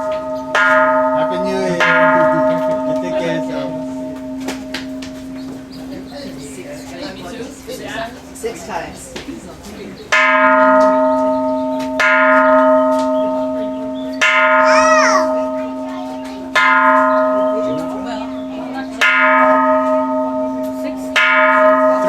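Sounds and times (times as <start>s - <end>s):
temple bell ringing: 0.0s - 7.5s, 10.1s - 22.0s.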